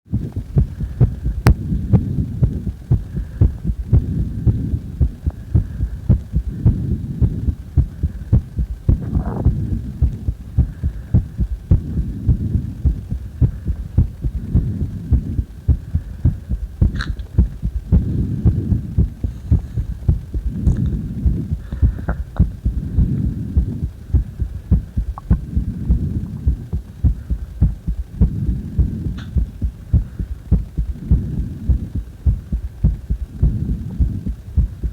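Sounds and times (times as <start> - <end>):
heartbeat thumps: 0.1 - 34.9
low rumble: 0.1 - 34.9.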